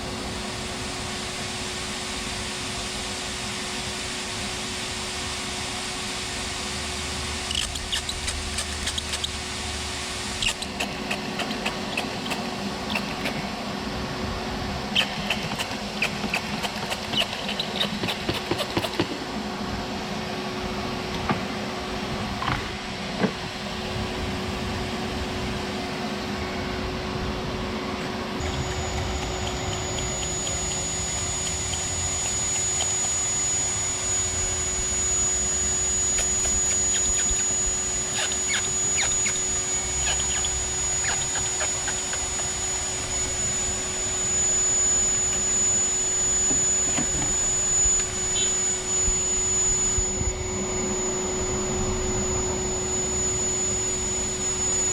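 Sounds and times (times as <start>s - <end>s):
high whine: 0.0s - 54.9s
shop vac motor drone: 0.0s - 54.9s.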